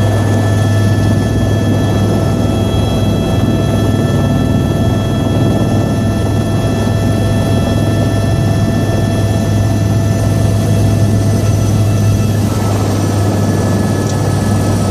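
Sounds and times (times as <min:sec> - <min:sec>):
helicopter rotor drone: 0:00.0 - 0:14.9
high whining tones: 0:00.2 - 0:14.9.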